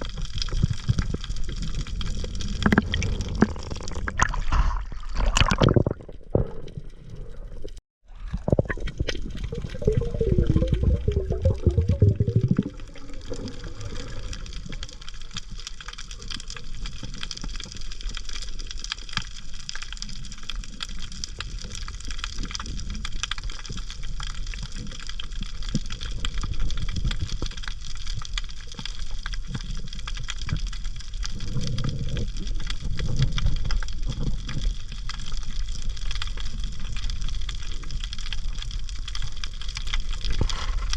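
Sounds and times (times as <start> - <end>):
rush of bubbles underwater: 0.0 - 40.9.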